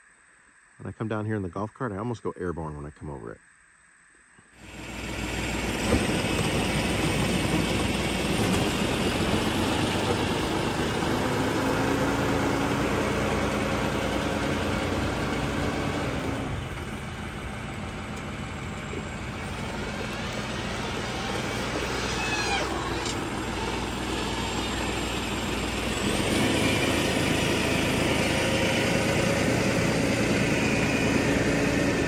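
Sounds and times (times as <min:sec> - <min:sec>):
tractor diesel engine running: 0:04.6 - 0:32.0.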